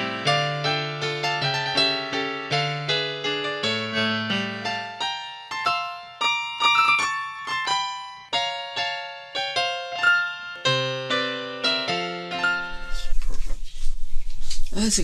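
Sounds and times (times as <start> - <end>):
piano notes and chords: 0.0 - 14.5.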